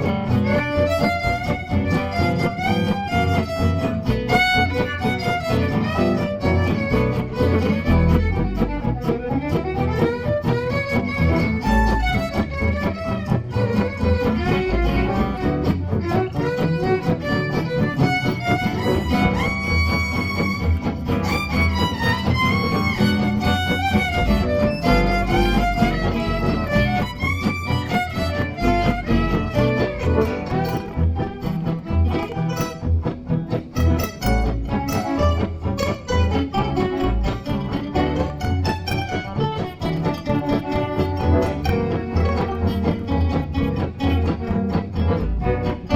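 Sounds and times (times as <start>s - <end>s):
guitar accompaniment: 0.0s - 45.9s
violin melody: 0.0s - 45.9s.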